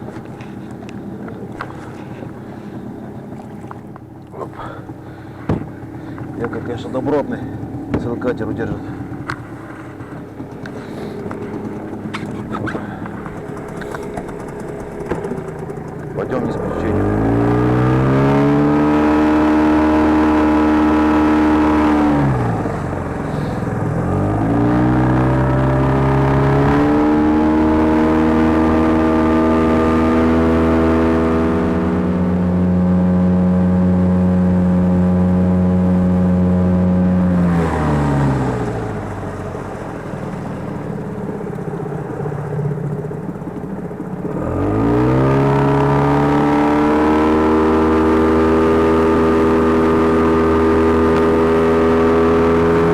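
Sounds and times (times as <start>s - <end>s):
boat outboard motor running: 0.0s - 52.9s.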